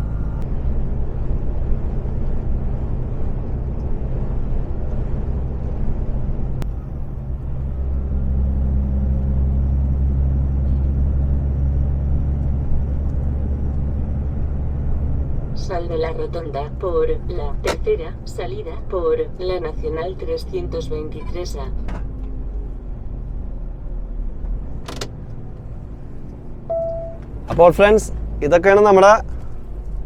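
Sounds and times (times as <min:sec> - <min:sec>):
truck diesel engine drone: 0:00.0 - 0:30.0.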